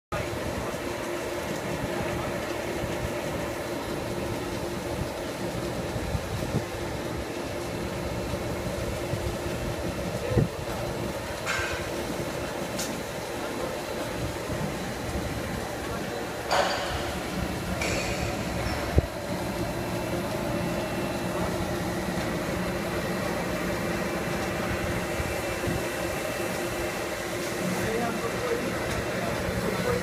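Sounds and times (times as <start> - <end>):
industrial machinery hum: 0.1 - 30.0.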